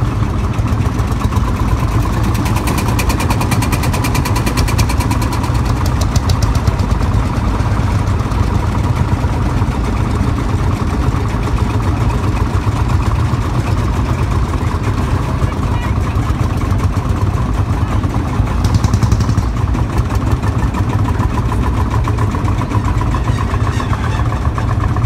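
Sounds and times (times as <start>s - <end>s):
tractor engine chugging: 0.0s - 25.0s.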